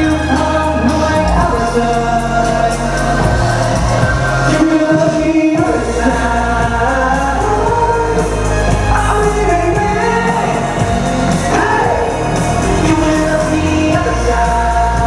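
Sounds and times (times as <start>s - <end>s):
man singing pop song over backing track: 0.0s - 15.0s.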